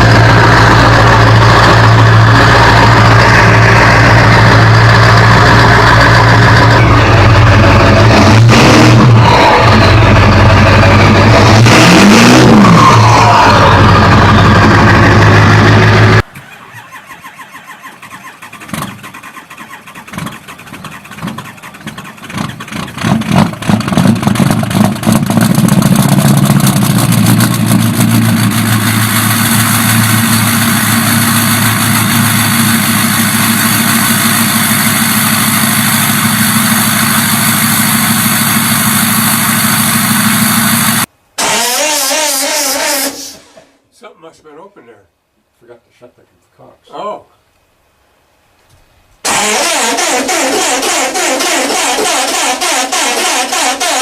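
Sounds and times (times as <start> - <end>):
large engine running: 0.0 - 43.6, 49.3 - 54.0
engine turning over and firing: 0.0 - 43.8, 49.2 - 54.0.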